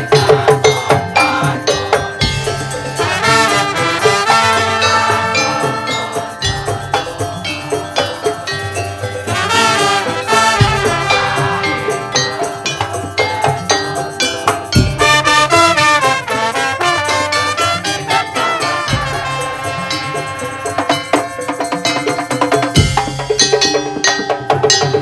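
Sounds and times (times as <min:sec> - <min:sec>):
fast steady percussion beat: 0:00.0 - 0:25.0.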